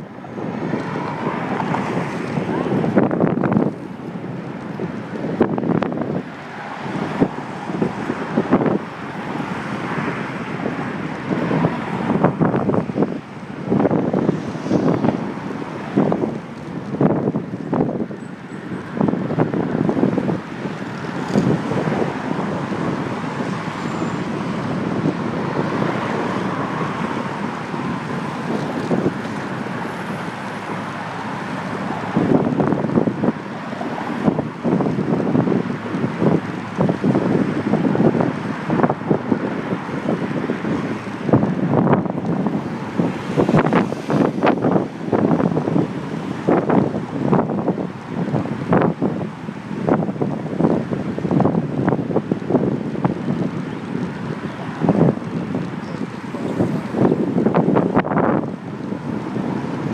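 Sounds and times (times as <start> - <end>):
road and traffic noise: 0.0 - 59.9
wind buffeting microphone: 0.0 - 59.9.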